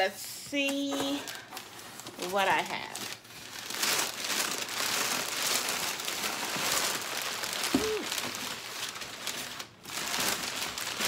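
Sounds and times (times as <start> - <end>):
paper packaging rustling: 0.7 - 11.0.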